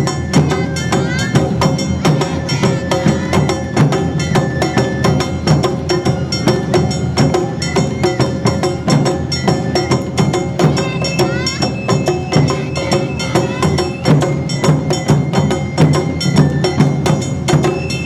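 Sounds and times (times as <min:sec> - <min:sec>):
drum and bell strikes: 0:00.0 - 0:18.0
festival band music: 0:00.0 - 0:18.0.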